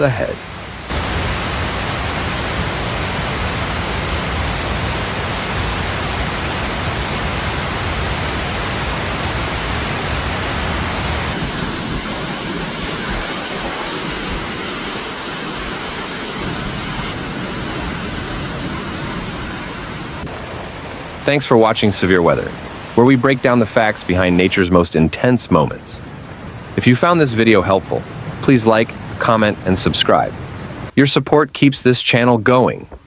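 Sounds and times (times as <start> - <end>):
heavy rain: 0.0 - 31.0
flowing water: 0.0 - 31.6
faint high steady whine: 0.0 - 33.0.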